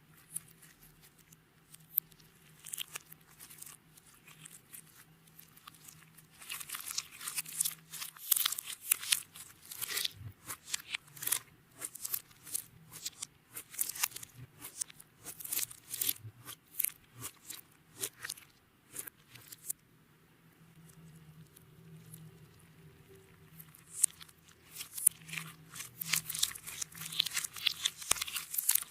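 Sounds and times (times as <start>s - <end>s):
hands squishing slime: 0.2s - 19.7s, 23.7s - 28.9s.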